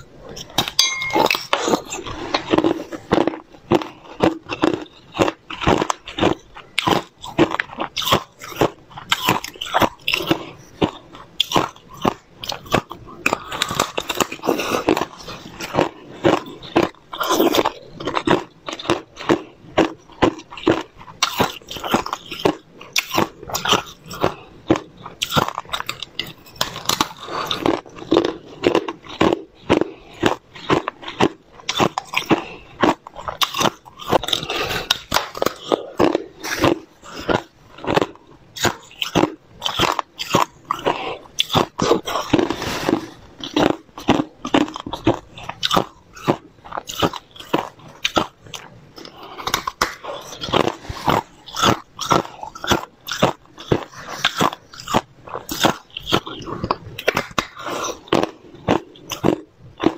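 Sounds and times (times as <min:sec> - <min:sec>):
ice being chewed and crunched: 0:00.0 - 0:59.9.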